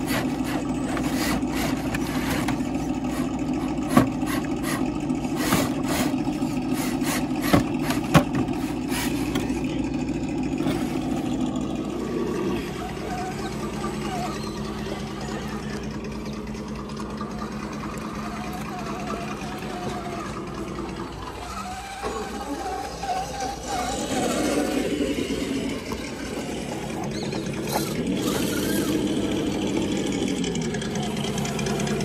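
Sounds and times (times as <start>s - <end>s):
toy truck motor hum: 0.0s - 32.0s.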